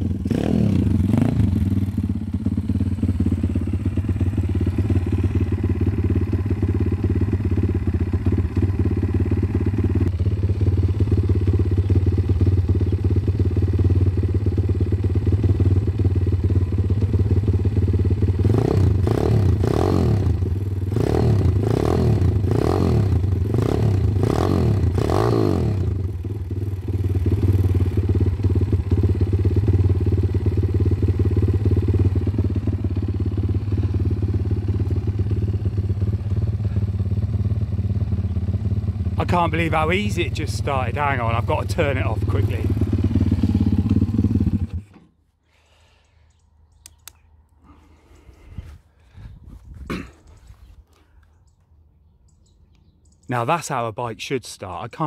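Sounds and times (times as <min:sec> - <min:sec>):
motorbike engine idling: 0:00.0 - 0:25.0, 0:25.7 - 0:50.5.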